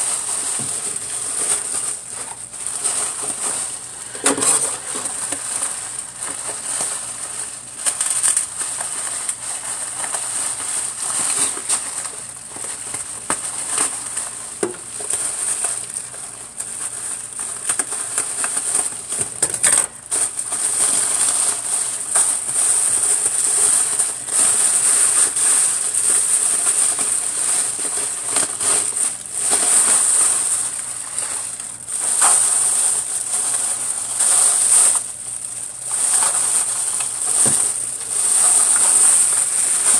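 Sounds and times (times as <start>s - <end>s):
plastic bag crinkling: 0.0s - 39.9s.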